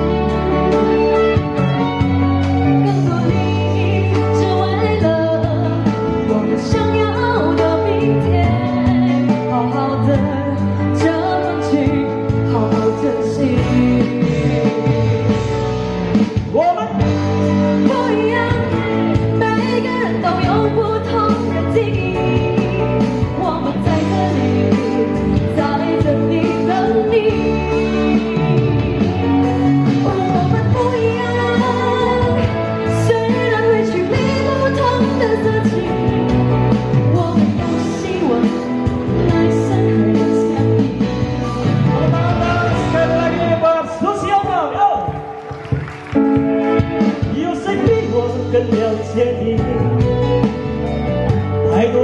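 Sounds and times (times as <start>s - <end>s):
guitar accompaniment: 0.0s - 52.0s
person singing pop song: 0.0s - 52.0s.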